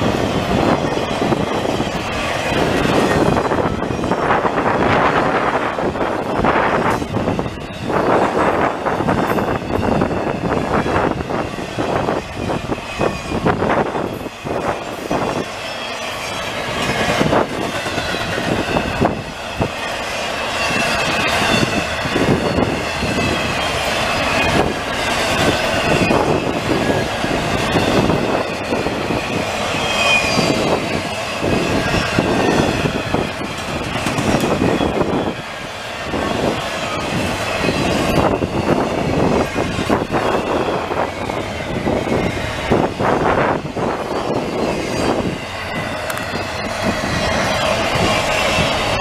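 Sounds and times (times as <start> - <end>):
high wheel squeal: 0.0 - 49.0
train wheels clattering over rails: 0.0 - 49.0.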